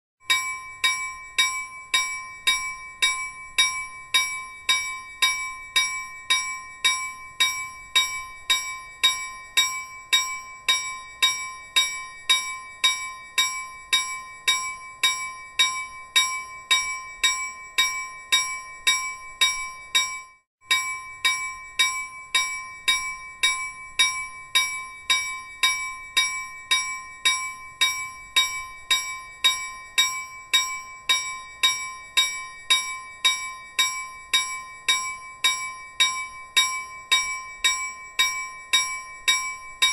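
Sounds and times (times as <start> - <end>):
railroad crossing bell ringing: 0.3 - 39.9.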